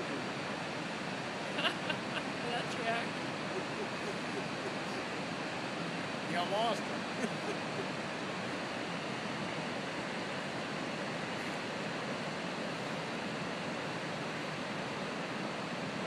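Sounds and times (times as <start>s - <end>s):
water rushing over spillway: 0.0s - 16.0s.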